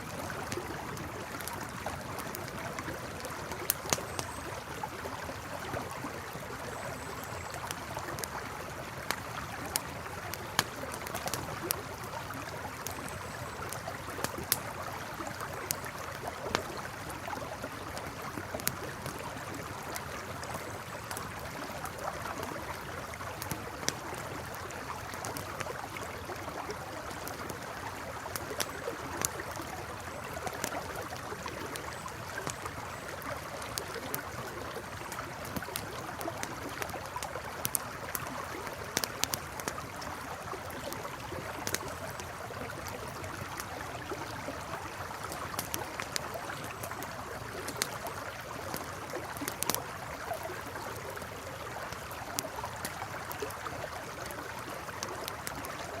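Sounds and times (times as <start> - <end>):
campfire crackling and popping: 0.0 - 56.0
river flowing: 0.0 - 56.0.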